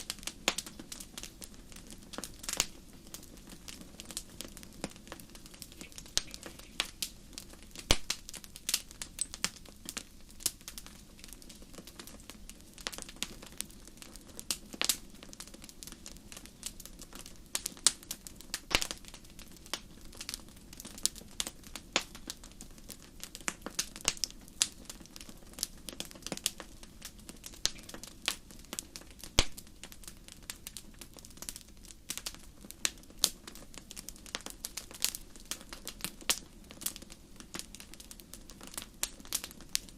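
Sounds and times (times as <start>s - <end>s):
burning wood popping: 0.0s - 39.9s
low rumble of flames: 0.0s - 39.9s.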